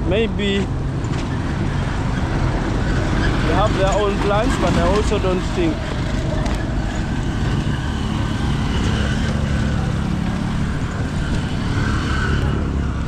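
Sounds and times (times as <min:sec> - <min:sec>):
tyre and road rumble: 0:00.0 - 0:13.0.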